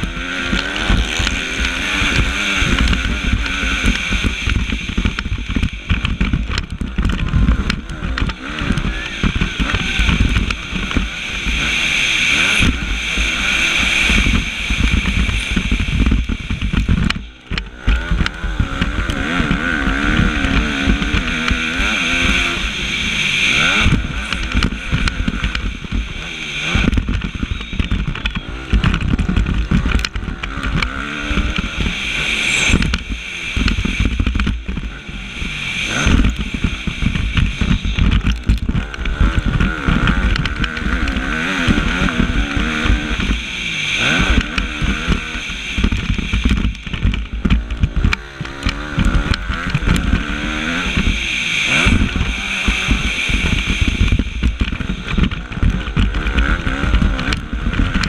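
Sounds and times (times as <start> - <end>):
motorbike engine revving: 0.0 - 58.0
wind rushing over microphone: 0.0 - 58.0.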